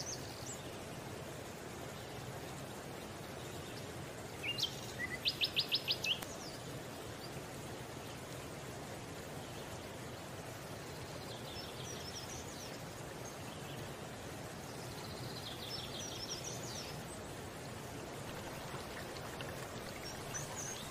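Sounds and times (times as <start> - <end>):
steady background hiss: 0.0 - 20.9.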